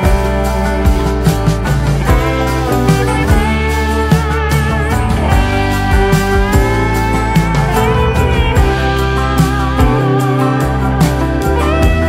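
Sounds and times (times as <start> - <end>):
guitar instrumental with steady beat: 0.0 - 12.0.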